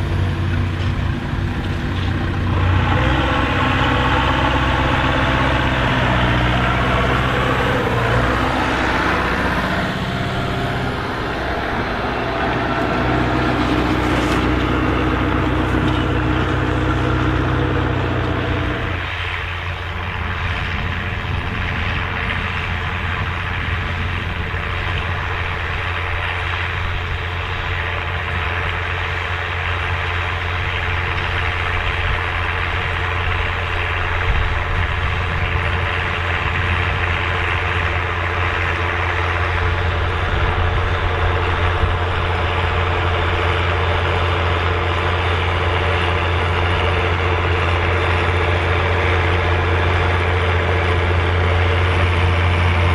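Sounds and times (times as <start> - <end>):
tractor engine under load: 0.0 - 52.9.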